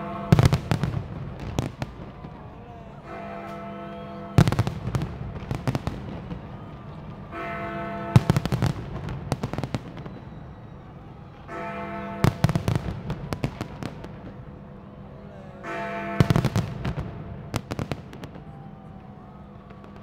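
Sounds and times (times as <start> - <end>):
fireworks bangs and crackling: 0.0 - 3.7, 4.3 - 14.6, 15.6 - 20.0.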